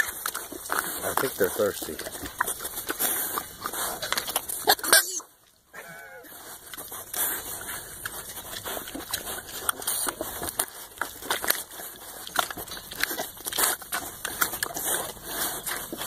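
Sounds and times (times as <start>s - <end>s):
pig drinking from waterer: 0.0s - 4.9s, 6.3s - 16.0s.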